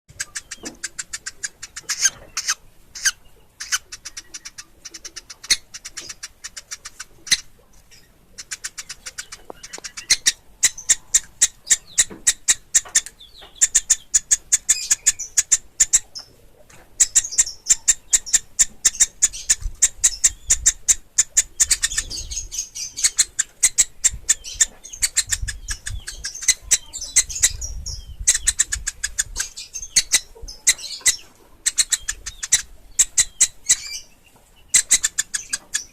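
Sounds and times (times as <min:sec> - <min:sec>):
woodpecker nestlings calling: 0:00.1 - 0:35.9.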